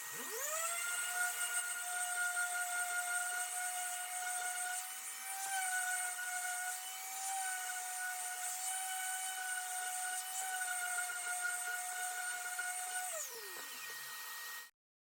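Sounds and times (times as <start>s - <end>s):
power tool motor whining: 0.0s - 14.7s.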